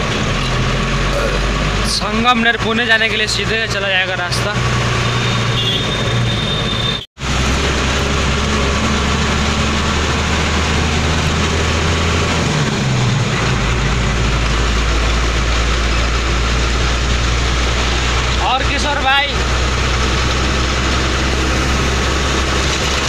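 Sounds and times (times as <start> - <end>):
diesel engine droning: 0.0 - 23.0
road noise: 0.0 - 23.0.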